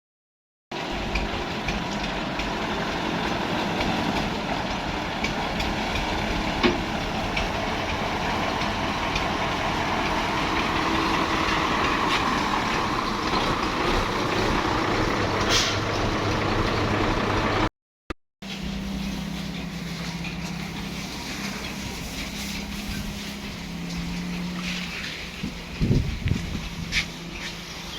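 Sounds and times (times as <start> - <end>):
heavy truck running: 0.7 - 17.7, 18.4 - 27.9
low engine hum: 0.7 - 17.7, 18.4 - 27.9.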